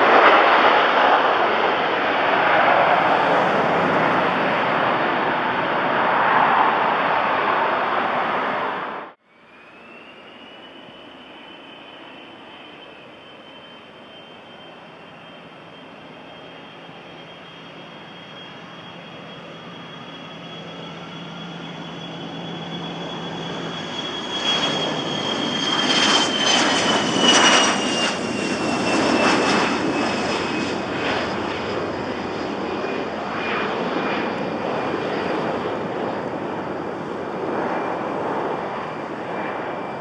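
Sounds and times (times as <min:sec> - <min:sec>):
jet taking off: 0:00.0 - 0:40.0.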